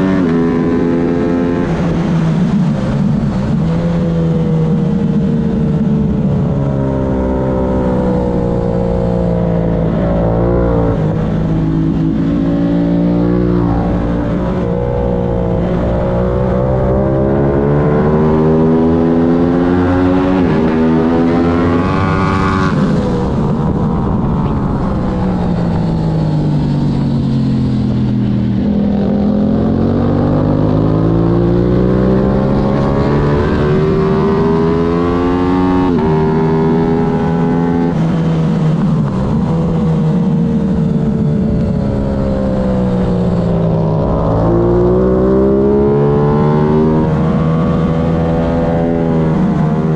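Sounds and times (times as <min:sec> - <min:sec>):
racing motorcycle engine revving: 0:00.0 - 0:49.9.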